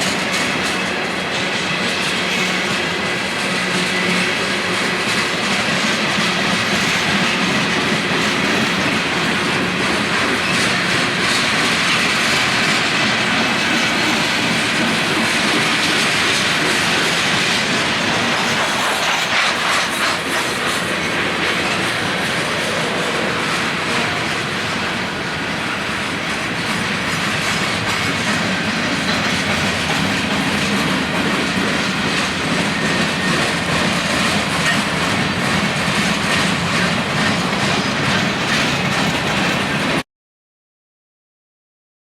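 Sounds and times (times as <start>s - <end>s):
freight train cars rolling: 0.0s - 40.0s
wheels clacking over rail joints: 0.0s - 40.0s.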